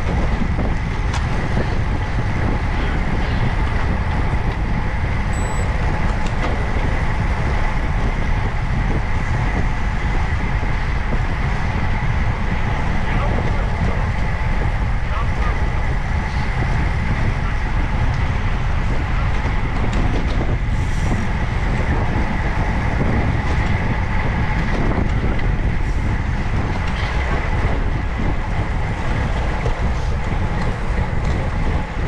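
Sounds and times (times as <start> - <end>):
bicycle tyre and road noise: 0.0 - 32.0
wind on microphone: 0.0 - 32.0.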